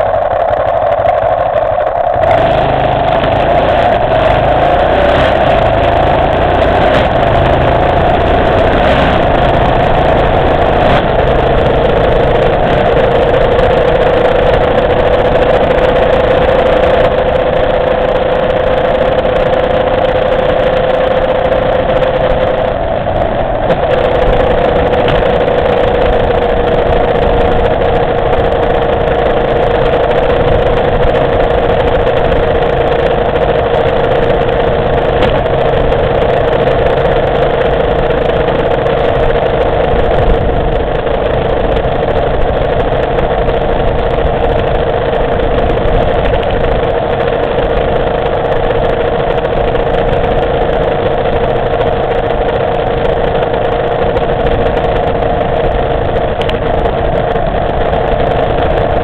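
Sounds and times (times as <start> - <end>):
motorcycle engine cruising: 0.0 - 59.0
road noise: 0.0 - 59.0
wind noise: 0.0 - 59.0.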